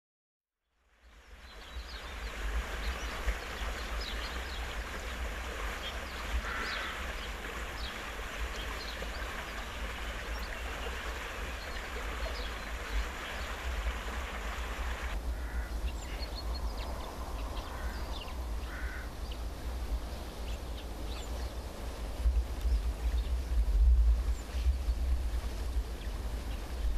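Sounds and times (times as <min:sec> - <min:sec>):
background hiss: 0:00.8 - 0:26.9
small birds chirping: 0:01.0 - 0:13.8, 0:15.4 - 0:26.9
wind buffeting microphone: 0:01.7 - 0:26.9.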